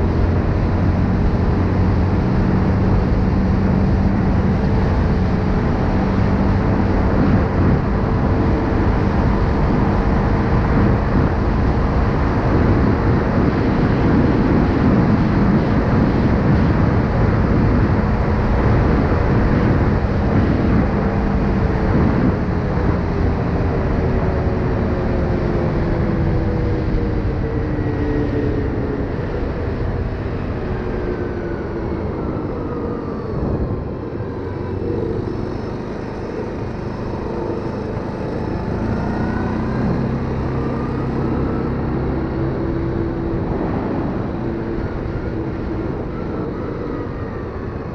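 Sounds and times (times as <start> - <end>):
wind noise on microphone: 0.0 - 47.9.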